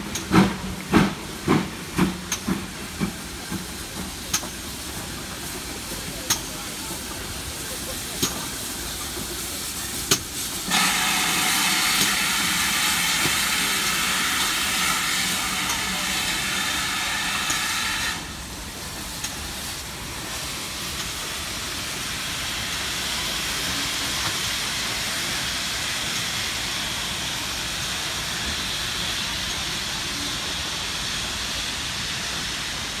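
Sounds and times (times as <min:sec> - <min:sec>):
loud steam hiss: 0:00.0 - 0:33.0
rush of steam: 0:00.0 - 0:33.0.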